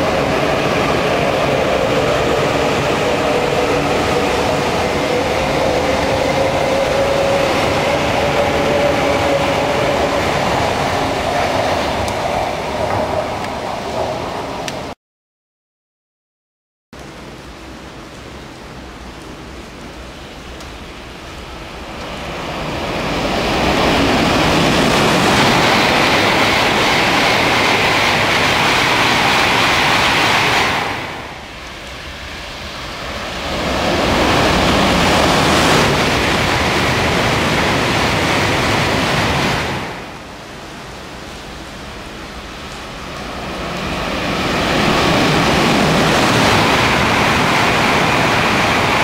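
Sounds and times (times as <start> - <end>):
trains passing at speed: 0.0 - 15.0, 17.1 - 49.0.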